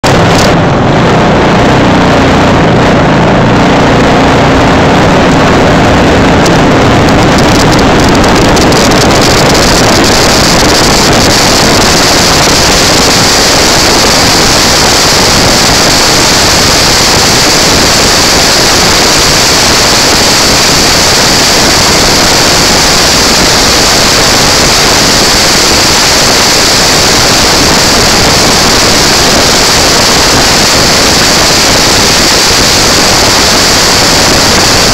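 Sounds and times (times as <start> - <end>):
go-kart engine running: 0.0 - 34.9
wind noise on microphone: 0.0 - 34.9.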